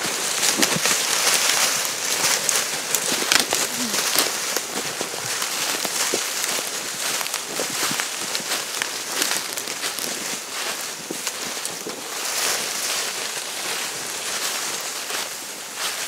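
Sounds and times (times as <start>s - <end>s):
dry leaves rustling: 0.0s - 16.0s.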